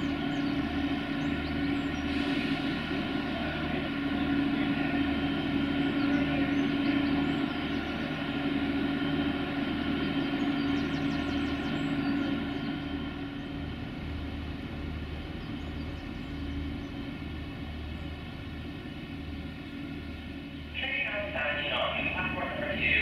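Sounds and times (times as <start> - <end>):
diesel train engine idling: 0.0 - 23.0.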